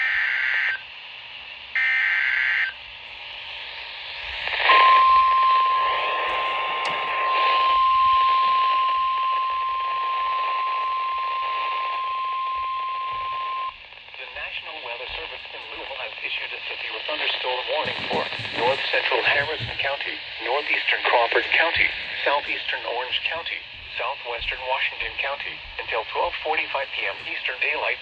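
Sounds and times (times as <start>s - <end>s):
radio hiss: 0.7s - 28.0s.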